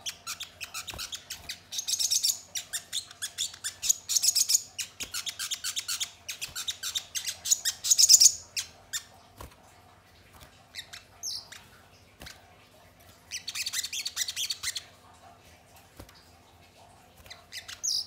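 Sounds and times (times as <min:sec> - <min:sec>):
birds chittering: 0:00.0 - 0:09.4, 0:10.4 - 0:15.4, 0:16.5 - 0:18.0.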